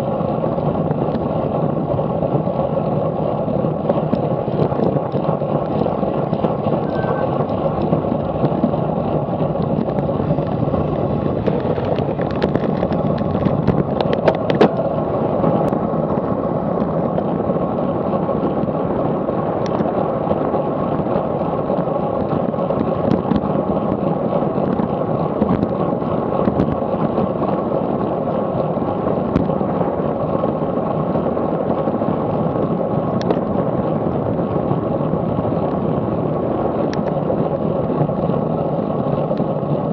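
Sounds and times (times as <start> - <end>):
tyre and road noise: 0.0 - 39.9
wind rushing on microphone: 0.0 - 39.9.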